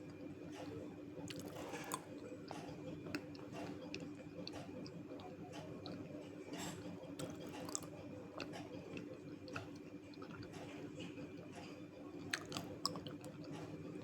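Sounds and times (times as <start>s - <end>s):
chewing crunchy clay: 1.3s - 14.0s.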